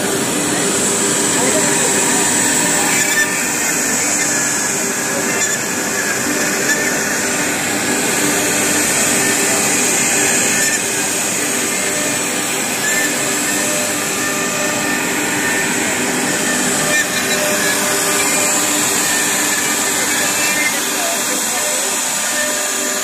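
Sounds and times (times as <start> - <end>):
router spindle cutting wood: 0.0 - 23.0.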